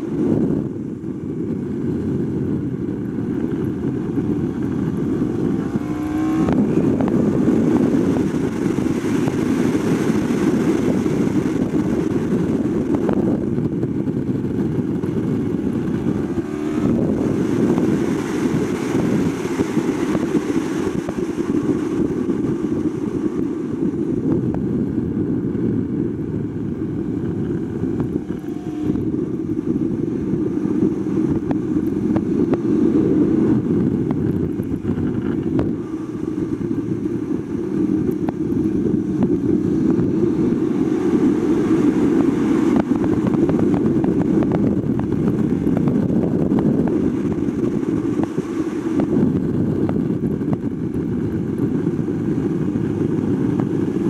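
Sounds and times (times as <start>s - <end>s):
motorcycle engine running hard: 0.0s - 54.0s
wind rush: 0.0s - 54.0s.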